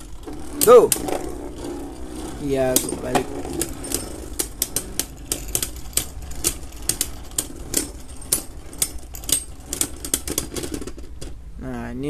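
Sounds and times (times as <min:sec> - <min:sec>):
spinning tops clacking: 0:00.0 - 0:11.3.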